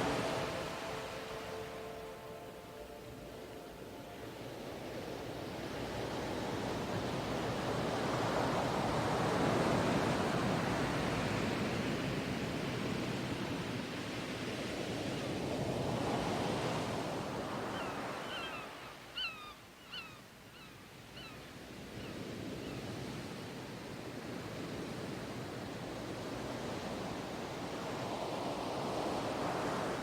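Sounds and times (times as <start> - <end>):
ocean surf washing in: 0.0 - 18.2, 24.1 - 30.0.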